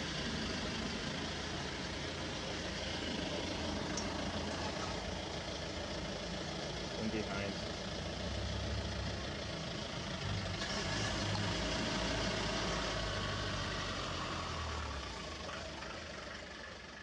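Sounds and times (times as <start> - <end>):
jeep engine hum: 0.0 - 17.0
road noise: 0.0 - 17.0.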